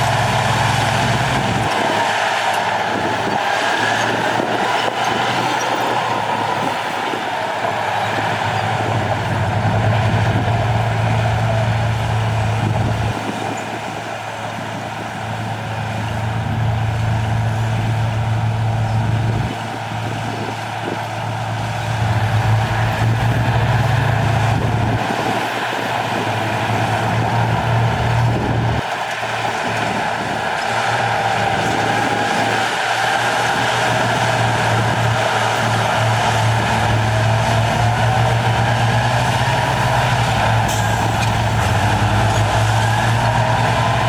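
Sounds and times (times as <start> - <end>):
heavy diesel engine under load: 0.0 - 44.0.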